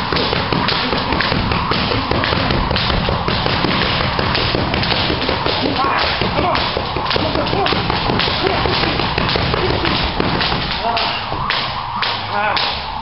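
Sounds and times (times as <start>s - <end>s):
boxing gloves smacking mitts: 0.0s - 13.0s.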